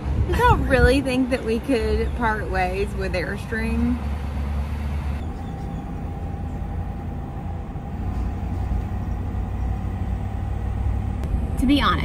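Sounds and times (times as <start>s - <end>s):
road and engine rumble in truck cab: 0.0s - 12.0s.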